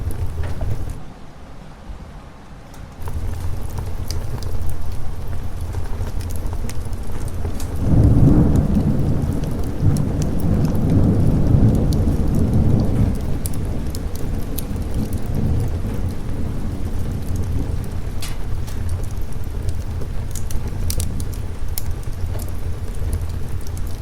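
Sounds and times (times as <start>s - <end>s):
fireplace fire crackling: 0.0s - 1.0s, 2.5s - 24.0s
rolling thunder: 0.0s - 1.0s, 3.0s - 24.0s
steady rain: 0.0s - 24.0s.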